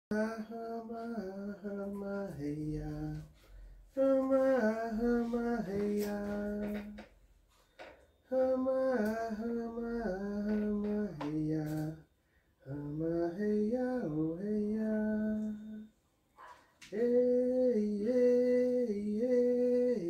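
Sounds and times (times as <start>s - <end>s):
person singing a slow chant: 0.1s - 3.3s, 3.9s - 7.1s, 8.3s - 15.9s, 16.8s - 20.0s.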